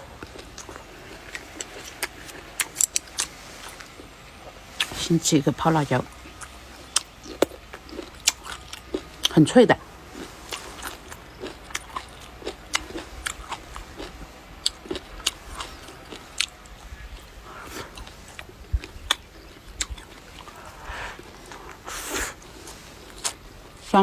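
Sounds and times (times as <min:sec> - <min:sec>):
person chewing crisp food: 0:00.0 - 0:05.0, 0:05.9 - 0:24.0.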